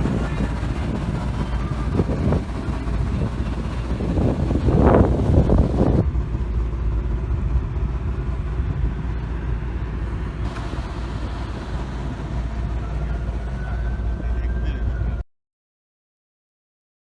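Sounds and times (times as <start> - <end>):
car engine rumble: 0.0 - 15.2
road noise: 0.0 - 15.2.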